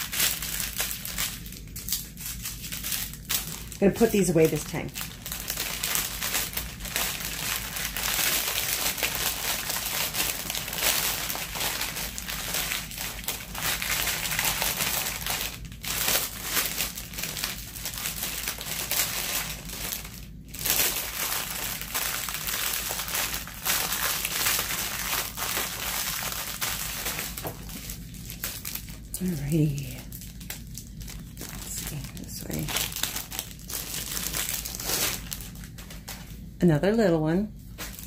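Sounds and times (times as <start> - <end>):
plastic bag crinkling: 0.0 - 36.5, 37.6 - 38.0.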